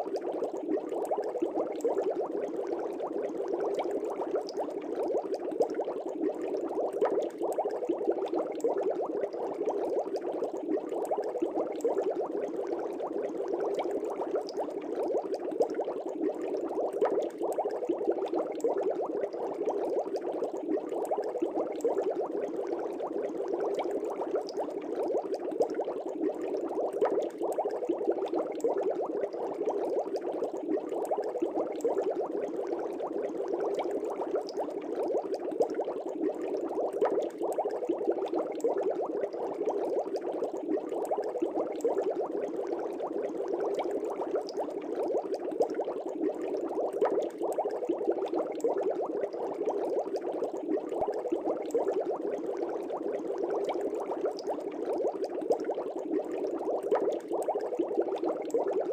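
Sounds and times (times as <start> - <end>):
air bubbling in fish tank: 0.0 - 58.9.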